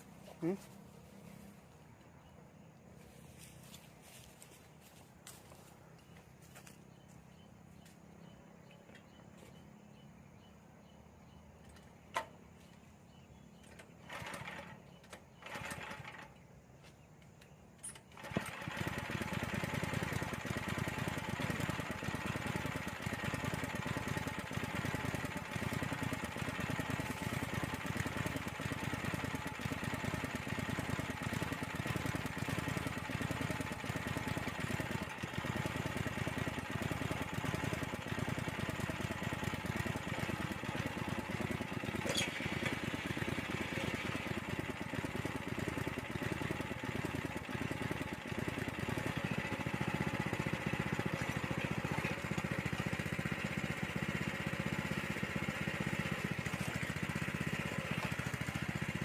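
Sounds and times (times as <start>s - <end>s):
tiller engine running: 11.3s - 59.0s.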